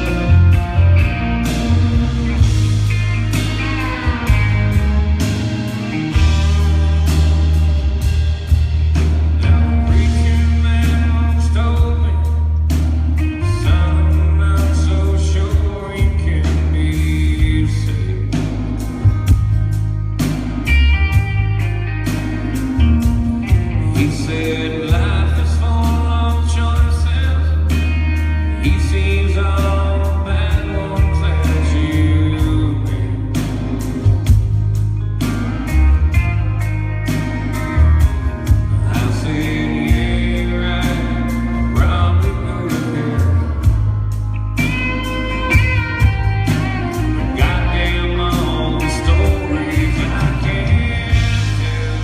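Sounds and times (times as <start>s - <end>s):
person singing: 0.0s - 19.4s, 22.0s - 34.4s, 35.7s - 52.0s
country band playing: 0.0s - 52.0s
drums beating: 0.0s - 52.0s.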